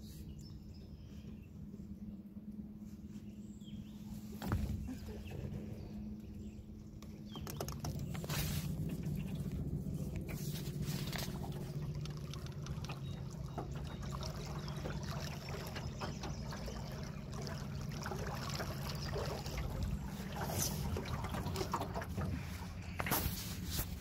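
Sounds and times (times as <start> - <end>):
steady low rumble: 0.0 - 24.0
water lapping against boat hull: 4.2 - 24.0.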